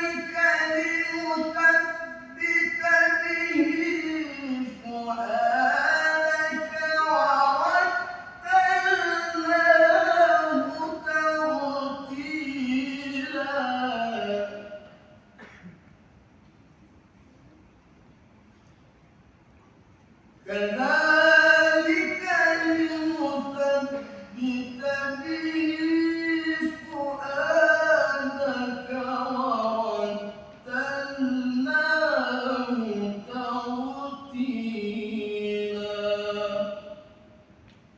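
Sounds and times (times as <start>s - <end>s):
man reciting melodically: 0.0s - 15.2s, 20.4s - 37.3s.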